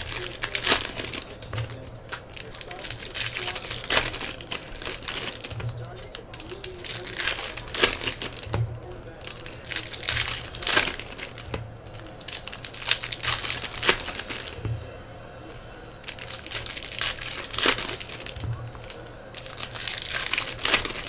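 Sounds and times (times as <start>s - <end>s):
foil wrappers crinkling: 0.0s - 21.0s.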